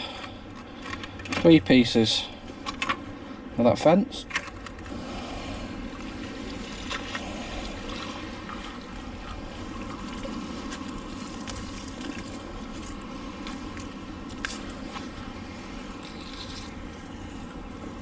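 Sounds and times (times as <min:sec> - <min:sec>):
low rumbling outdoor noise: 0:00.0 - 0:18.0.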